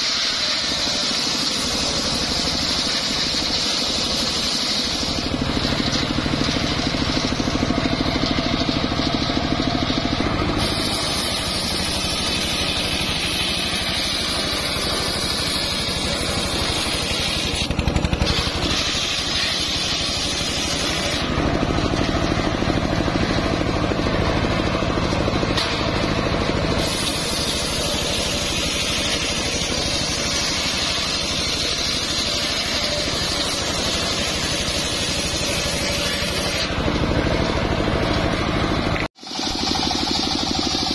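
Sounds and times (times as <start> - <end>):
engine droning: 0.0 - 40.9
saw blade ripping wood: 0.0 - 40.9.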